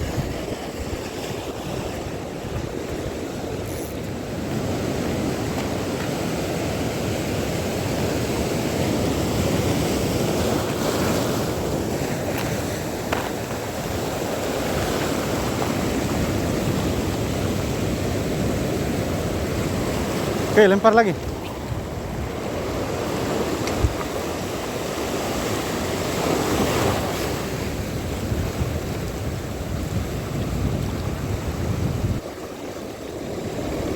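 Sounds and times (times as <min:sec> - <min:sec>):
waves washing: 0:00.0 - 0:33.9
wind buffeting microphone: 0:00.0 - 0:33.9.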